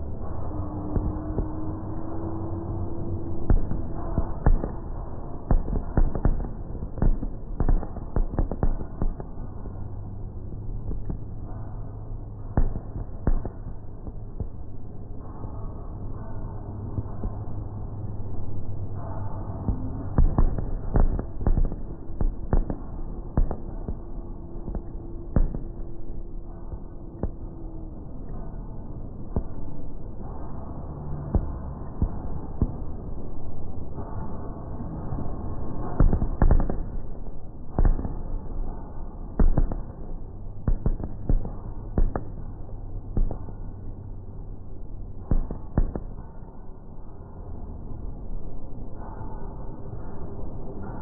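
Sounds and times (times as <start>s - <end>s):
low steady rumble: 0.0s - 51.0s
steady low hum: 0.0s - 51.0s.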